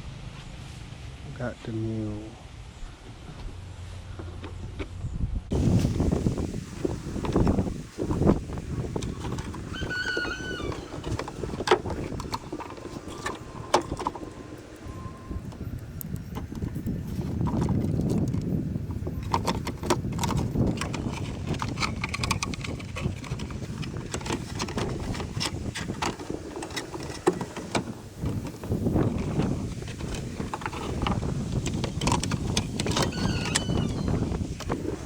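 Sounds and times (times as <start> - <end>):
wind rumbling on microphone: 2.4 - 35.0.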